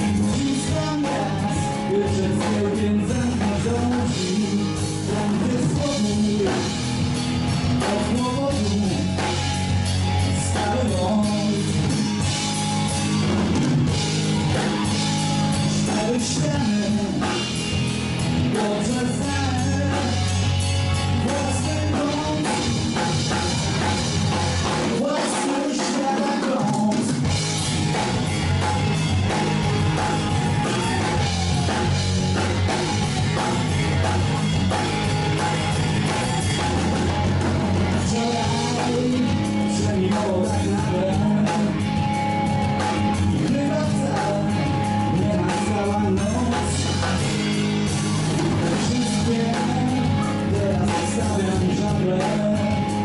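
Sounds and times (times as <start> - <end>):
person singing: 0.0 - 7.1, 7.7 - 9.5, 10.2 - 12.4, 14.5 - 17.6, 18.4 - 23.1, 23.8 - 27.4, 29.4 - 53.0
bass line: 0.0 - 53.0
blues-rock band playing: 0.0 - 53.0.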